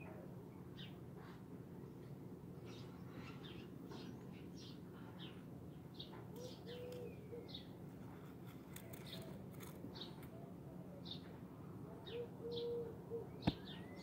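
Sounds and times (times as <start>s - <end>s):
faint birdsong chirps: 0.0s - 14.0s
low steady background hum: 0.0s - 14.0s.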